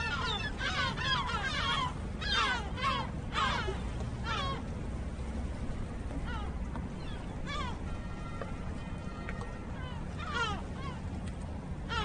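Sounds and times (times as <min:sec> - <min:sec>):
gulls calling harshly: 0:00.0 - 0:12.0
steady low rumble: 0:00.0 - 0:12.0.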